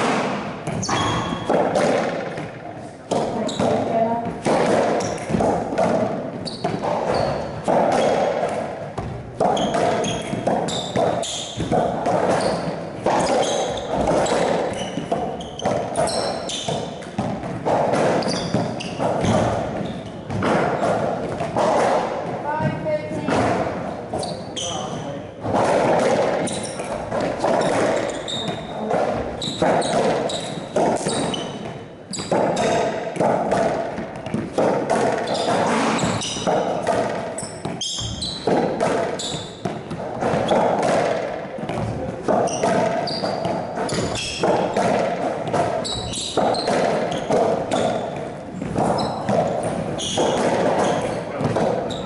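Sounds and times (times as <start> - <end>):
racquetball hits echoing: 0.0 - 52.0
shoes squeaking on floor: 0.6 - 1.6, 3.1 - 25.6, 26.3 - 41.0, 41.7 - 52.0.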